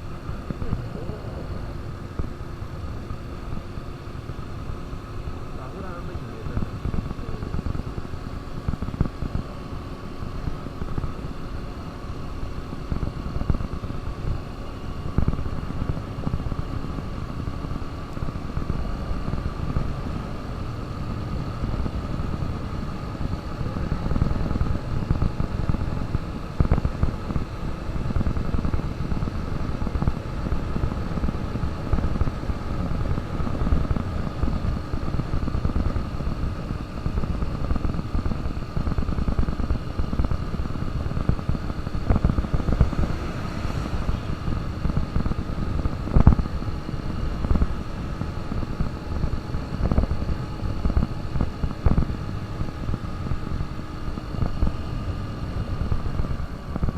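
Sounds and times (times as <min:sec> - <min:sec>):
heavy uneven low rumble: 0:00.0 - 0:56.9
motorcycle engine running: 0:00.0 - 0:56.9.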